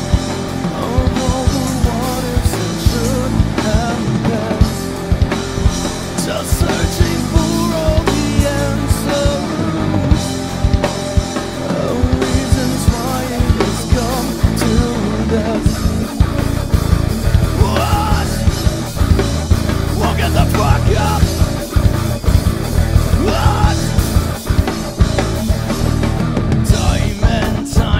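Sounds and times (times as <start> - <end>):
man singing: 0.0 - 10.8, 11.4 - 21.6, 23.0 - 24.4, 26.6 - 27.9
drum kit with cymbals: 0.0 - 27.9
electric bass: 0.0 - 27.9
electric guitar: 0.0 - 27.9.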